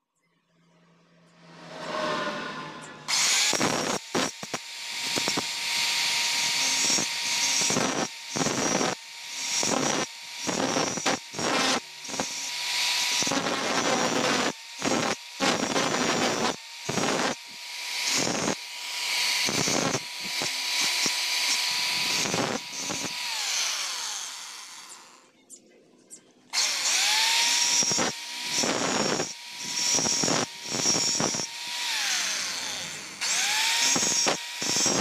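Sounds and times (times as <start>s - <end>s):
angle grinder whine: 0.7s - 25.3s, 26.5s - 35.0s.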